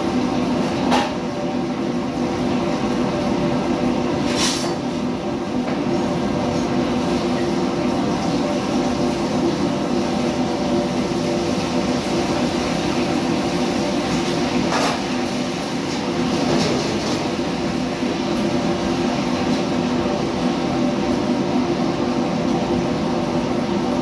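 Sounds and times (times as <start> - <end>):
extractor hood fan: 0.0 - 24.0
gas wok burner roaring: 0.0 - 24.0.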